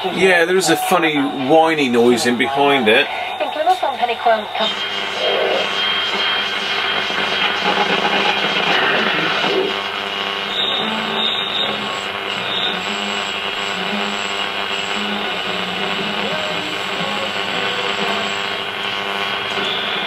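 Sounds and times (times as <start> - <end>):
interference whine: 0.0 - 20.0
rock music from radio speaker: 0.0 - 20.0.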